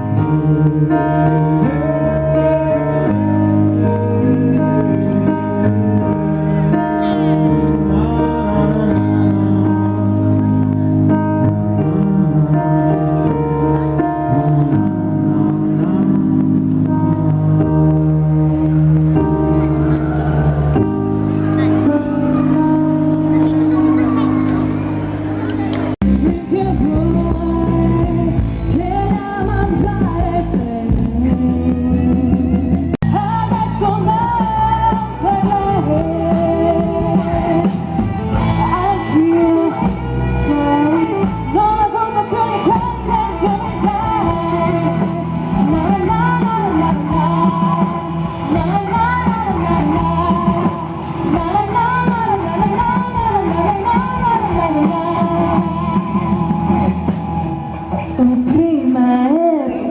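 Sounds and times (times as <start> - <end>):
rock band with singing: 0.0 - 59.9.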